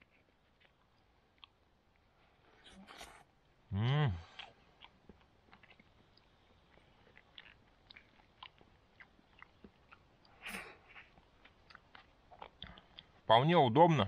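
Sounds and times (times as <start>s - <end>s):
person chewing: 0.0s - 13.3s.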